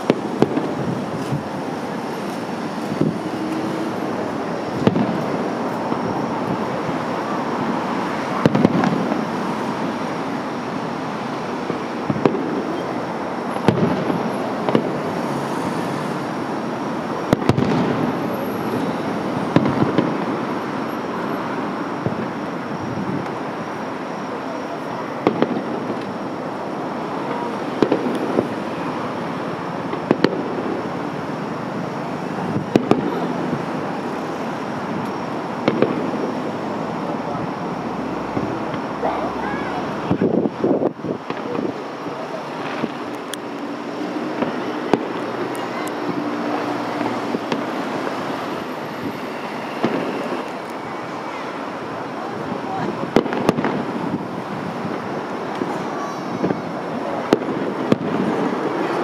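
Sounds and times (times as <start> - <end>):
fireworks exploding: 0.0 - 59.0
outdoor background noise: 0.0 - 59.0.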